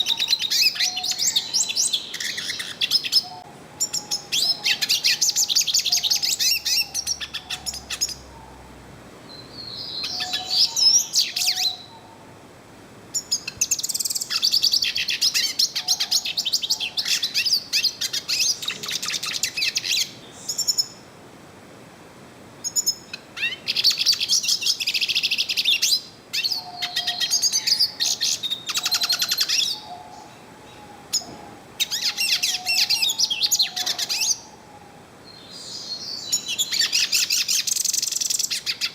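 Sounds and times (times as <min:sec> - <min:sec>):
bird twittering song: 0:00.0 - 0:08.7, 0:09.3 - 0:12.2, 0:13.2 - 0:21.0, 0:22.6 - 0:38.9.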